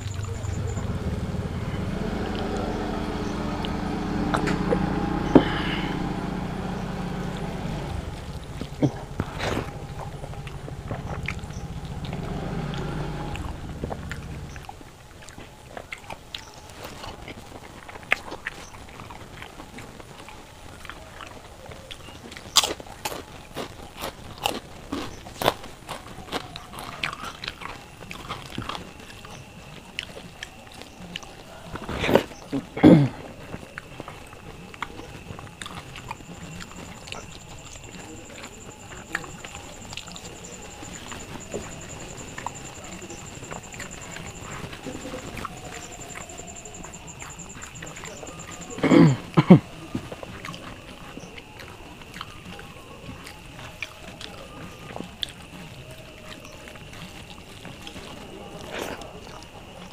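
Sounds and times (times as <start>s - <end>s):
low mechanical hum: 0.0s - 20.7s, 26.4s - 55.1s
crunchy food being chewed: 0.0s - 59.9s.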